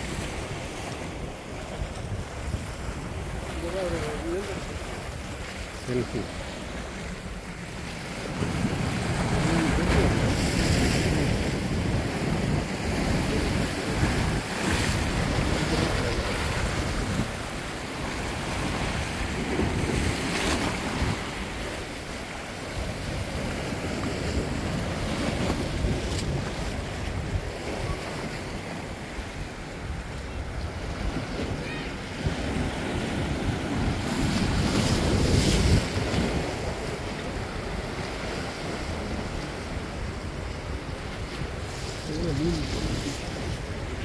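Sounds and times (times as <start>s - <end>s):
sea waves washing on rocky shore: 0.0s - 44.0s
wind rumbling on microphone: 0.0s - 44.0s.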